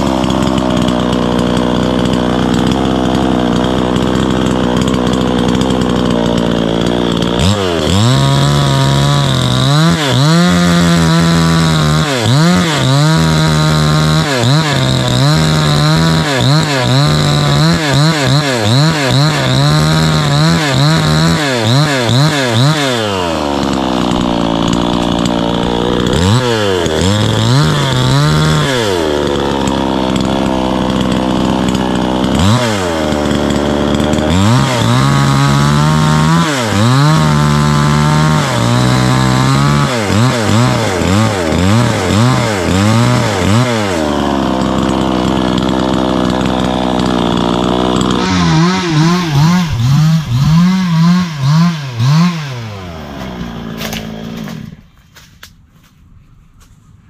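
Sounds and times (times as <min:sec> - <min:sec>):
chainsaw cutting log: 0:00.0 - 0:55.5.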